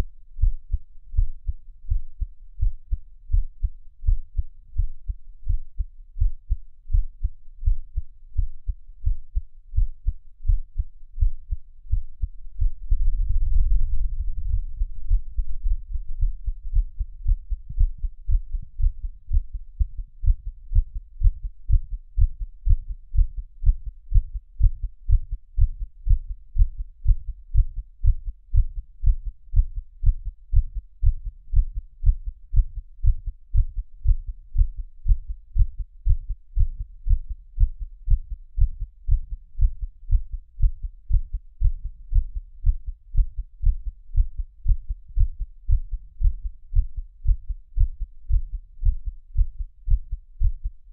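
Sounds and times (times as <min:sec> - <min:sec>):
heartbeat thudding: 0:00.4 - 0:50.9.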